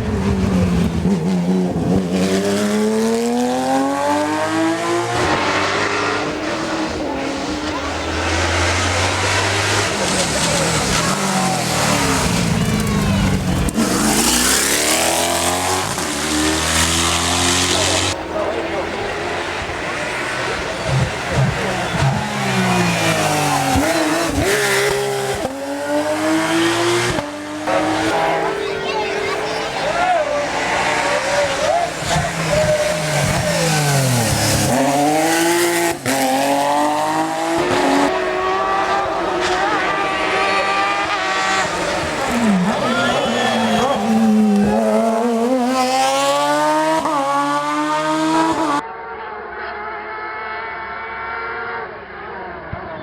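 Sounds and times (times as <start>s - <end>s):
quick gear upshifts: 0.0s - 48.8s
race car engine at full throttle: 0.0s - 53.0s.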